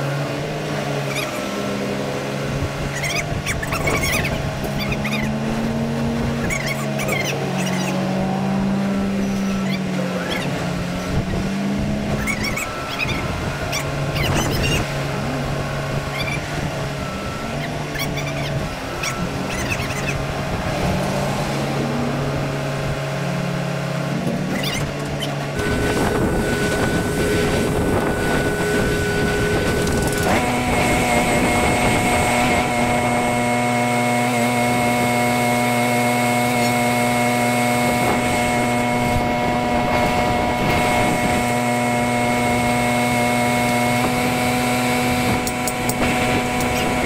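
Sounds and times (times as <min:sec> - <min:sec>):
crane engine running: 0:00.0 - 0:47.0.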